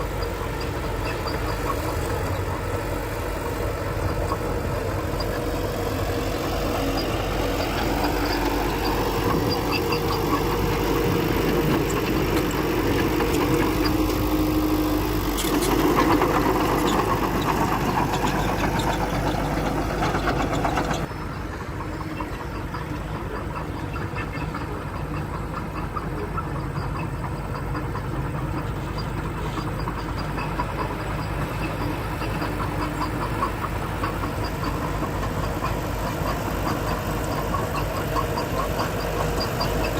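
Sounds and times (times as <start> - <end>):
construction machine diesel engine: 0.0 - 39.9.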